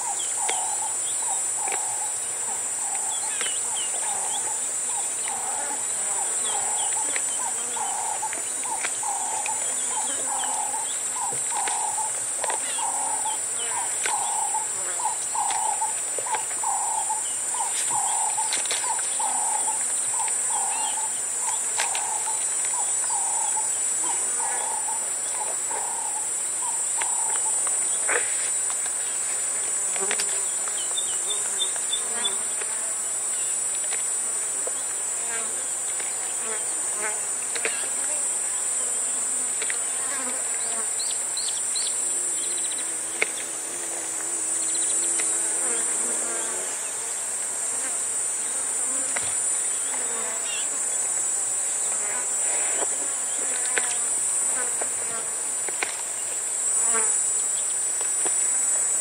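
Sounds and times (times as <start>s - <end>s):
cicada chorus: 0.0s - 59.0s
flies buzzing: 0.0s - 59.0s.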